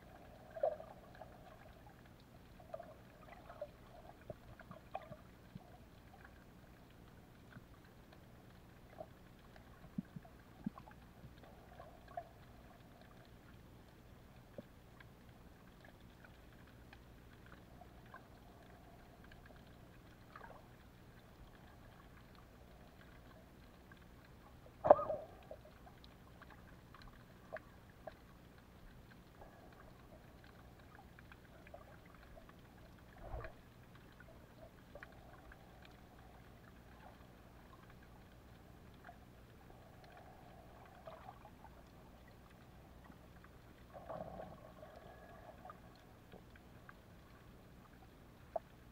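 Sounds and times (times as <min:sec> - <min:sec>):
small clicks and crackles: 0:00.0 - 0:48.9
underwater hum and hiss: 0:00.0 - 0:48.9.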